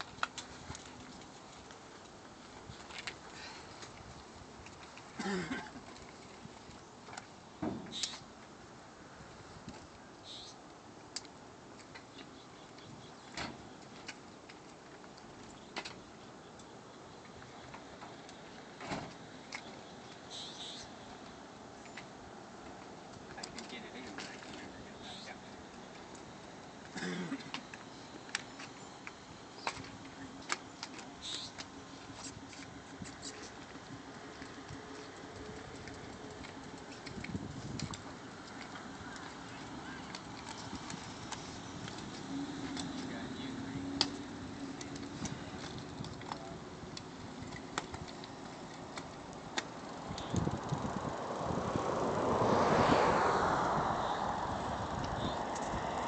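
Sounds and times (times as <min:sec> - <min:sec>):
bikes clicking and knocking: 0:00.0 - 0:08.6, 0:09.6 - 0:56.0.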